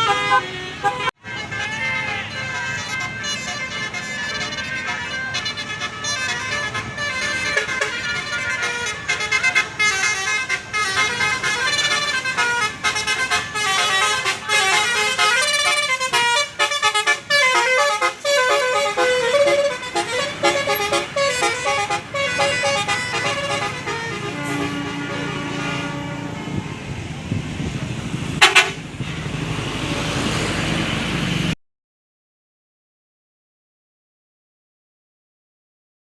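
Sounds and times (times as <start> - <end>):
musical bus horn: 0.0 - 30.4.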